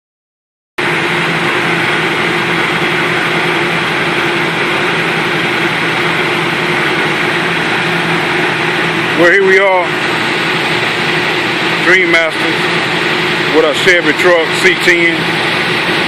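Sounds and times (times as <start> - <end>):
machine drone: 0.8 - 16.0.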